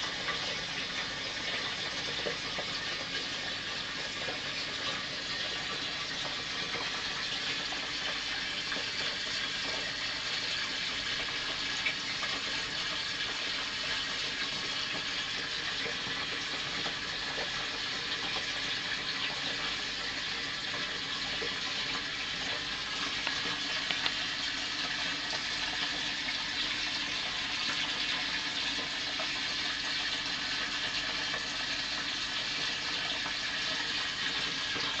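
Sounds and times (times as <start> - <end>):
aquarium filter water trickling: 0.0 - 35.0.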